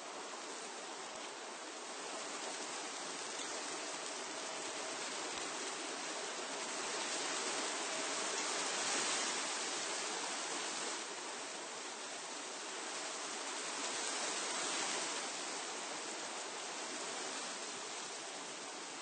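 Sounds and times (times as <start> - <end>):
wind rustling tree leaves: 0.0 - 19.0.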